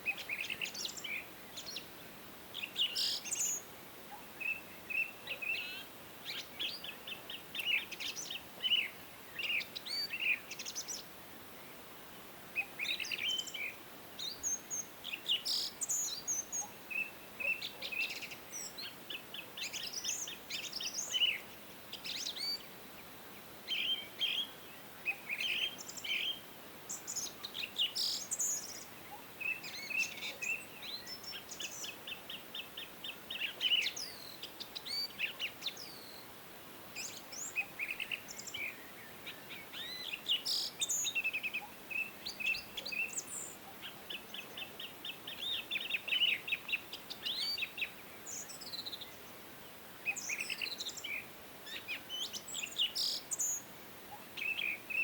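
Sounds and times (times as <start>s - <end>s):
faint steady hiss: 0.0s - 55.0s
songbirds singing and chirping: 0.0s - 55.0s.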